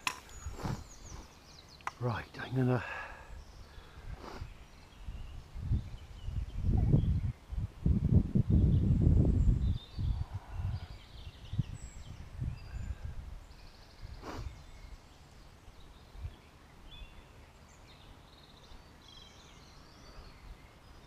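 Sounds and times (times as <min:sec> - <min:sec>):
small birds chirping: 0:00.0 - 0:07.8, 0:08.4 - 0:21.0.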